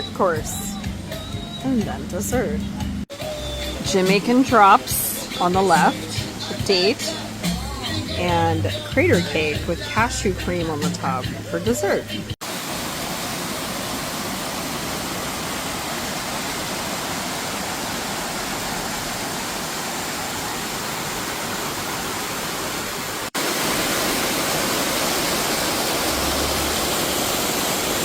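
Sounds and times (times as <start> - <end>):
waterfall rushing: 2.6 - 28.0.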